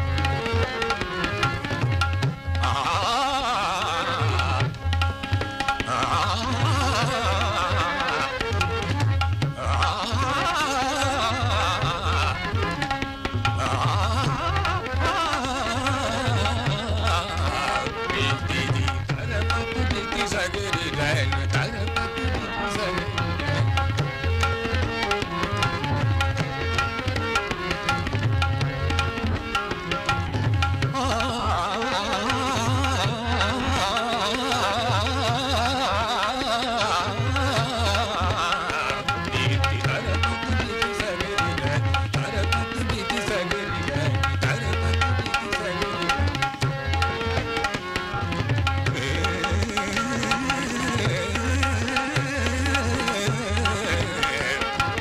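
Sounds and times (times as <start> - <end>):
tabla brisk rhythm: 0.0 - 55.0.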